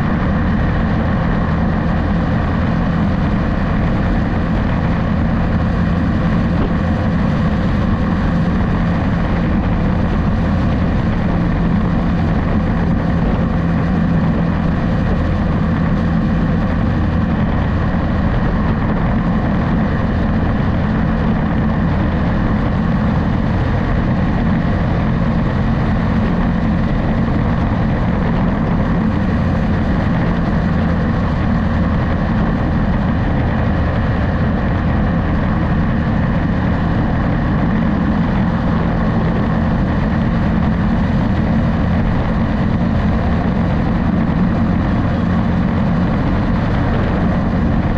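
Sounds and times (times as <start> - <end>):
vehicle engine hum: 0.0 - 47.9.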